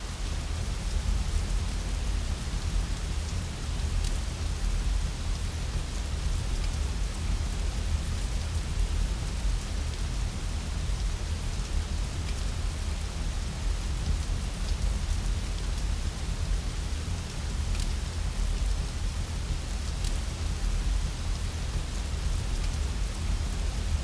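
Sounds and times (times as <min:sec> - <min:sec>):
steady rain: 0:00.0 - 0:24.0
wood fire crackles: 0:00.1 - 0:24.0.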